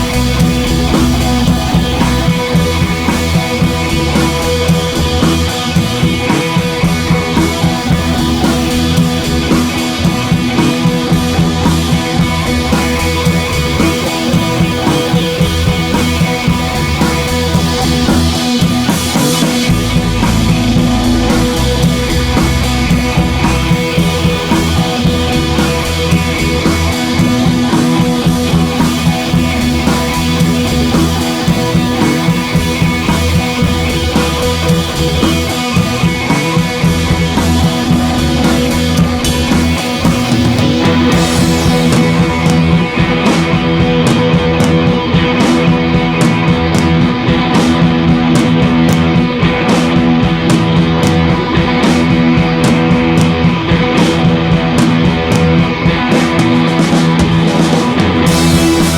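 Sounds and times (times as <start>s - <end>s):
rock music with guitar and drums: 0.0s - 58.9s.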